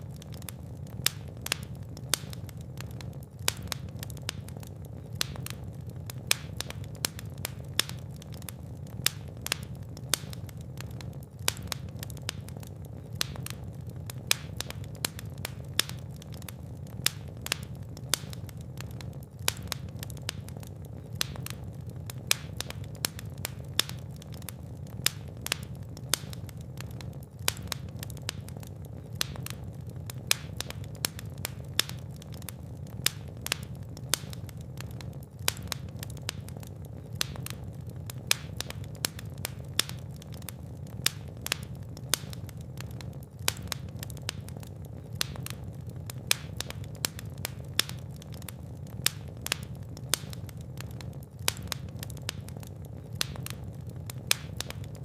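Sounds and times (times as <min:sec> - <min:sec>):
fireplace fire crackling: 0:00.0 - 0:55.0
low rumble of flame: 0:00.0 - 0:55.0.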